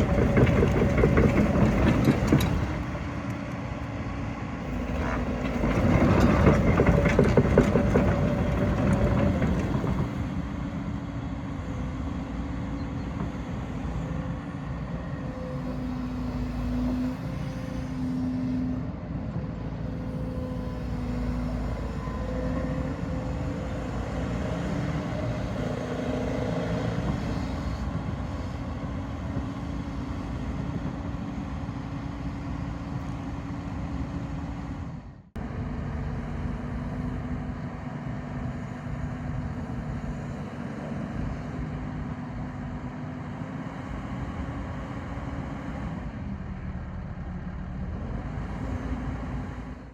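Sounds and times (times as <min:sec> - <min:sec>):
excavator diesel engine rumble: 0:00.0 - 0:49.9.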